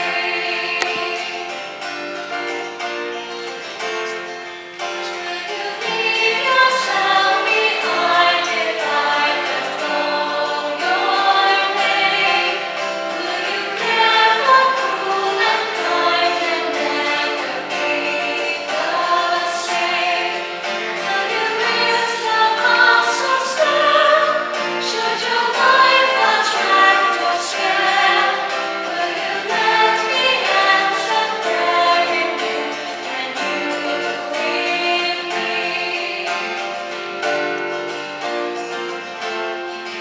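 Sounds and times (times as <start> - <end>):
choir singing a hymn: 0.0 - 1.8, 5.0 - 38.8
instrumental accompaniment: 0.0 - 40.0.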